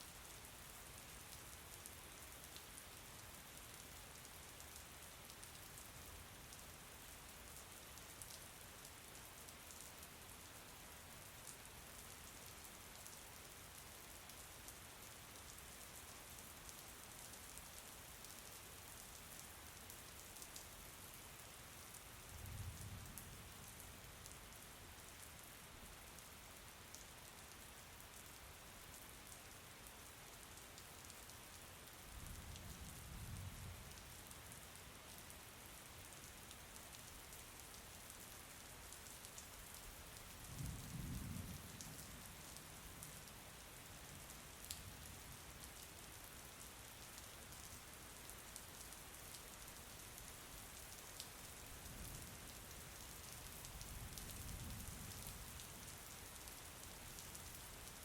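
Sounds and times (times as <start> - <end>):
faint rain: 0.0 - 58.0.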